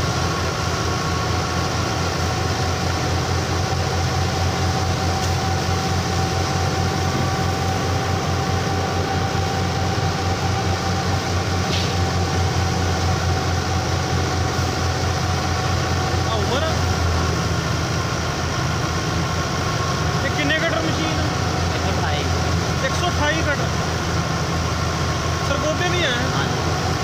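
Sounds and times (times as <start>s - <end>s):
constant whine: 0.0s - 27.0s
thresher drum running: 0.0s - 27.0s.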